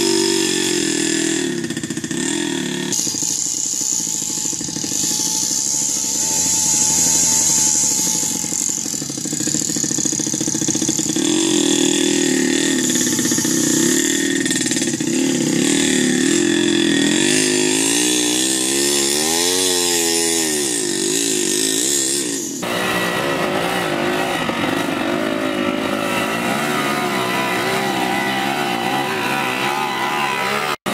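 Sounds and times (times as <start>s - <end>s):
small motorbike engine revving: 0.0s - 30.9s.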